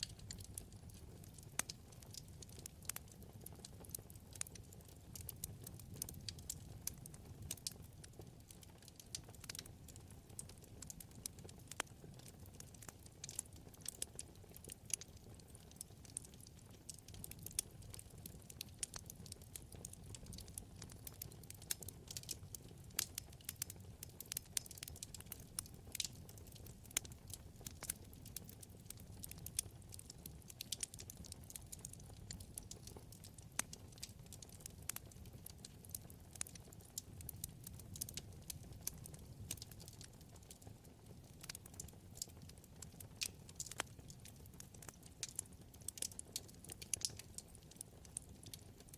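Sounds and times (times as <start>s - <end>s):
fire crackling and popping: 0.0s - 48.9s
low rumble of flame: 0.0s - 48.9s.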